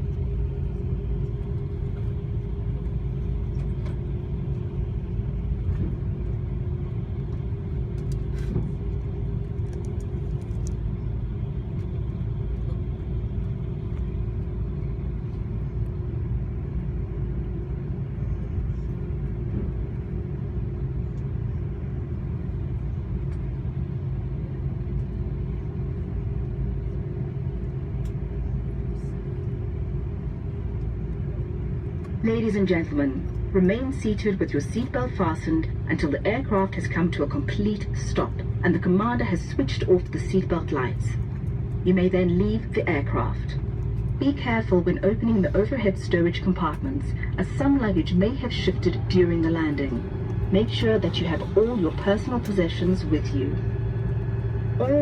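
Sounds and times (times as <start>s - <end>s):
constant cabin hum: 0.0s - 55.0s
low aircraft cabin rumble: 0.0s - 55.0s.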